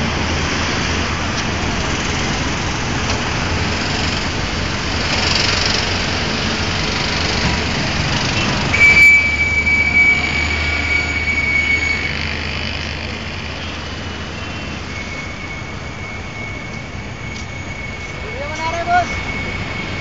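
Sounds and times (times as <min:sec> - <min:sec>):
high steady squeal: 0:03.6 - 0:20.0.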